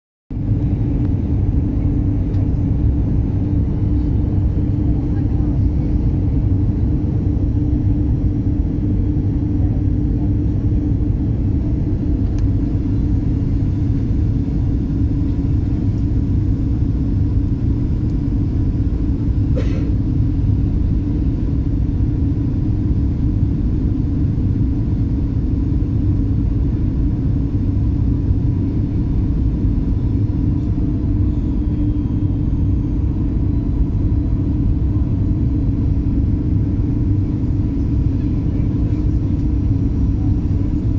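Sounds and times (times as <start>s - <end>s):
jet engine and airflow rumble: 0.3s - 40.9s
constant hum: 0.4s - 40.9s.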